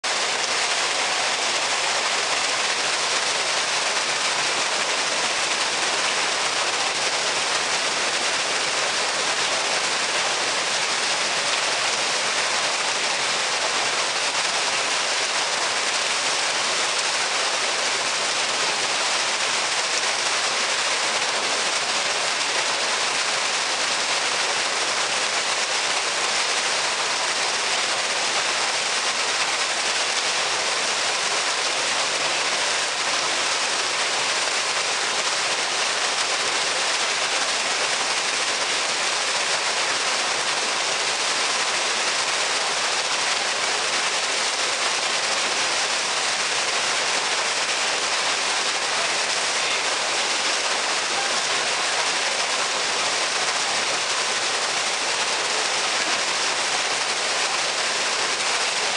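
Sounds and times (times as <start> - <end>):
water splashing into a pool: 0.0 - 58.9.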